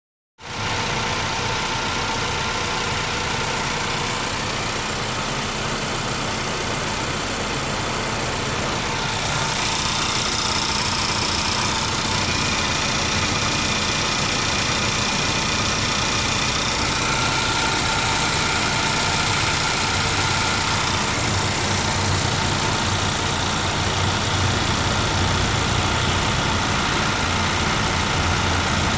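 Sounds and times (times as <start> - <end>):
car engine idling: 0.4 - 28.9.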